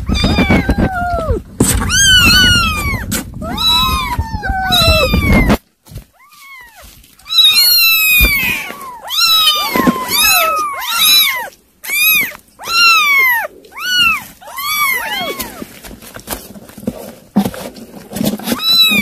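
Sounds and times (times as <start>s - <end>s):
kittens mewing: 0.0s - 15.9s, 18.5s - 19.0s.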